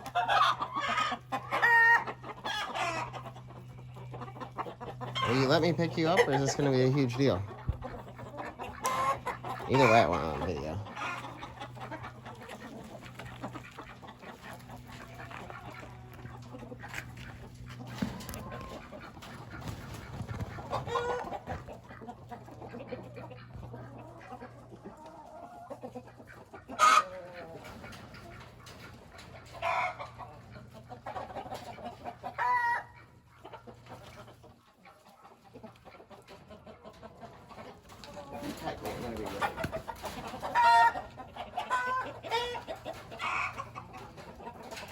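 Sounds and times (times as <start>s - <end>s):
sharp chicken calls: 0.0s - 35.0s, 35.6s - 44.7s
chickens clucking: 0.0s - 44.9s.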